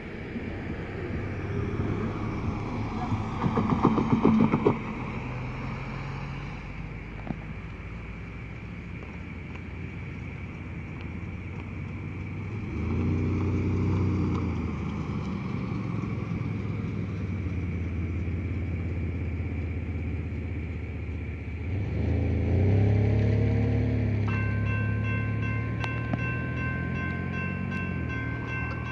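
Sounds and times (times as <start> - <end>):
vehicle engine rising in pitch: 0.0 - 8.6, 9.5 - 28.9
vehicles passing: 0.0 - 28.9.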